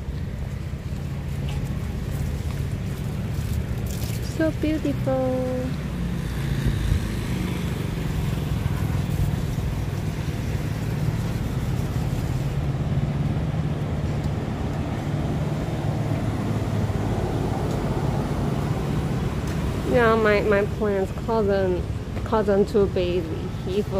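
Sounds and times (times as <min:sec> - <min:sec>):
street noise: 0:00.0 - 0:23.9.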